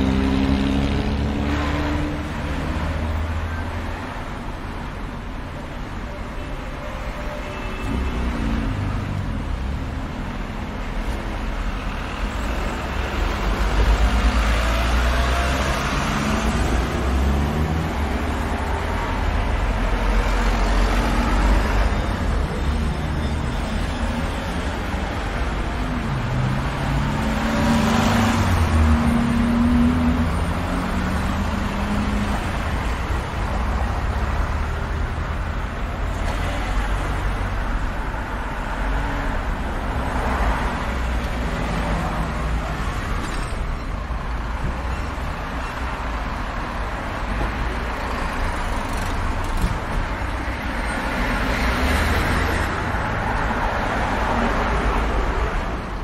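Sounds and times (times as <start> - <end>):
cars passing close by: 0.0 - 3.8, 11.6 - 43.2, 44.0 - 56.0
traffic rumble: 0.0 - 56.0.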